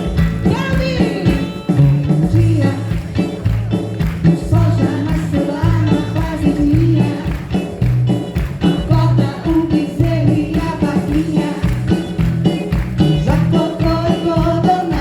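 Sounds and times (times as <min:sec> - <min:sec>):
upbeat band music: 0:00.0 - 0:15.0.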